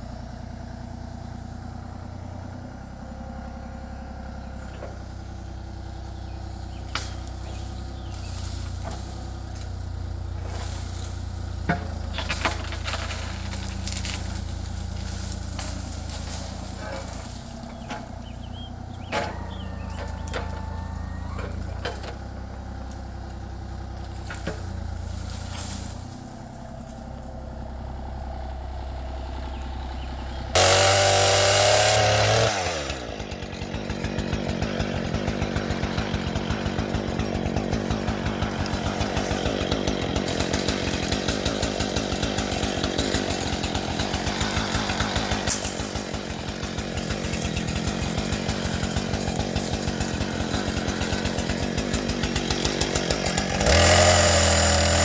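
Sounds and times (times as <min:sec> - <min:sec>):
engine running and revving: 0:00.0 - 0:55.0.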